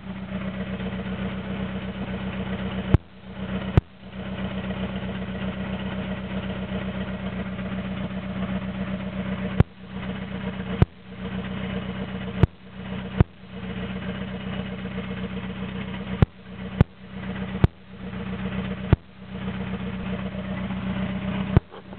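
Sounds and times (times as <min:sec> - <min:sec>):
car engine idling roughly: 0:00.0 - 0:21.9
exhaust pops: 0:00.0 - 0:21.9.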